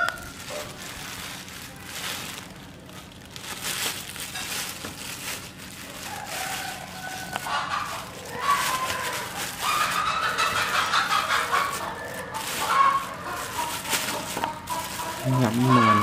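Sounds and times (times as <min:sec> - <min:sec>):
chickens calling: 0:00.0 - 0:02.5, 0:03.9 - 0:16.0
plastic bag crinkling: 0:00.0 - 0:16.0.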